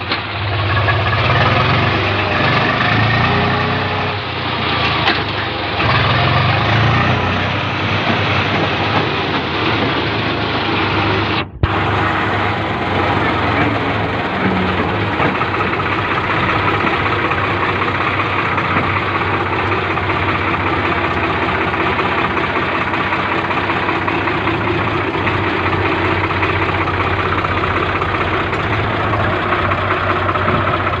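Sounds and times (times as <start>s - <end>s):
tractor diesel engine idling: 0.0s - 31.0s.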